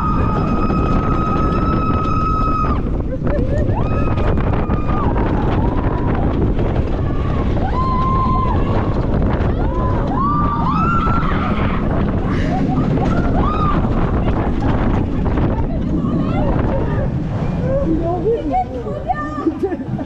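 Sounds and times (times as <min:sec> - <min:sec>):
roller coaster train rumbling on track: 0:00.0 - 0:20.0
wind rushing over microphone: 0:00.0 - 0:20.0.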